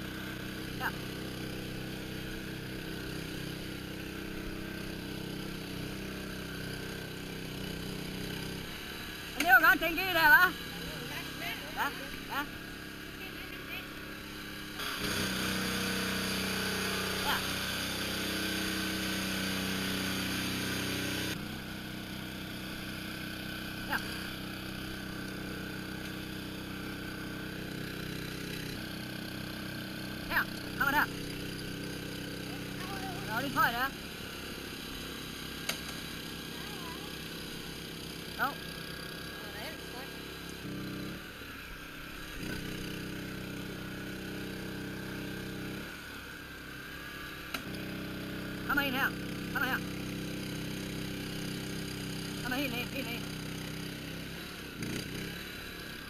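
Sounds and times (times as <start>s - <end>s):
small engine humming: 0.0s - 56.0s.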